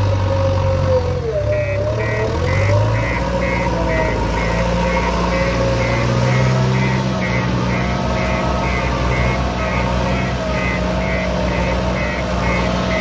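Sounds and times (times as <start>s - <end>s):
diesel engine running: 0.0s - 13.0s
reversing alarm beeping: 0.7s - 13.0s.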